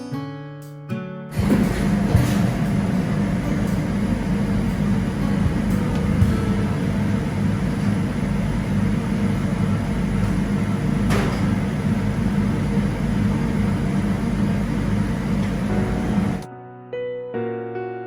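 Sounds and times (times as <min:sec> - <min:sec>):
mechanical rumble and hum: 0:01.4 - 0:16.5.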